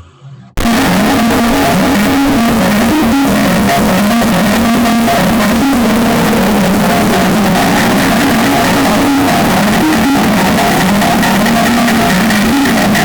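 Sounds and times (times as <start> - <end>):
distorted electronic ringtone melody: 0.6 - 13.0
harsh noise: 0.6 - 13.0.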